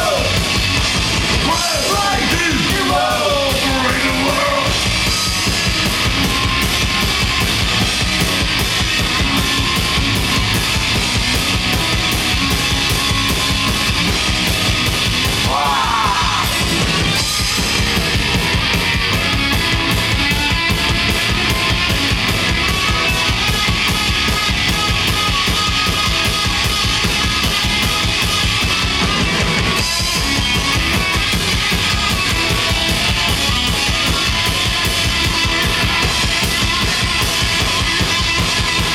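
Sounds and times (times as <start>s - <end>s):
bass guitar: 0.0s - 38.9s
distorted electric guitars: 0.0s - 38.9s
pounding drum kit: 0.0s - 38.9s.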